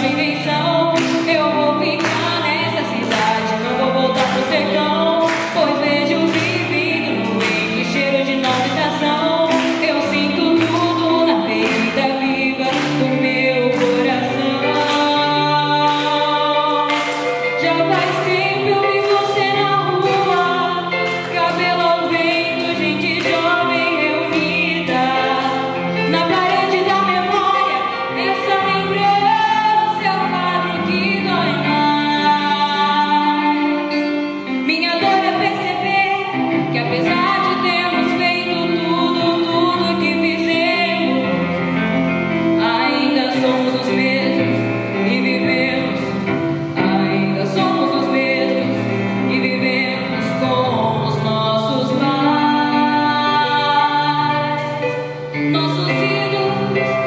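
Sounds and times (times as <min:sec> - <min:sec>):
woman singing with vibrato: 0:00.0 - 0:41.6, 0:42.4 - 0:57.0
instrumental accompaniment: 0:00.0 - 0:57.0.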